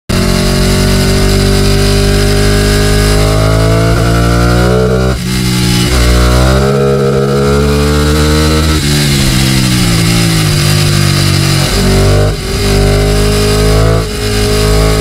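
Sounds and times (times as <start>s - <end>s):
motorcycle engine accelerating: 0.1s - 15.0s.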